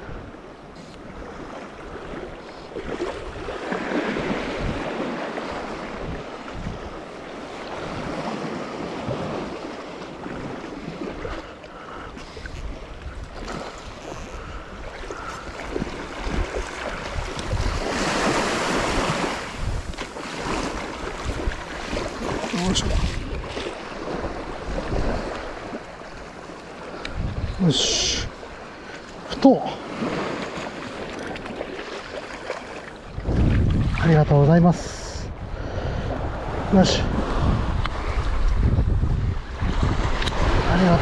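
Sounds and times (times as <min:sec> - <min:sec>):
wind rumbling on microphone: 0:00.0 - 0:29.3, 0:30.0 - 0:41.0
waves washing up beach: 0:00.0 - 0:41.0.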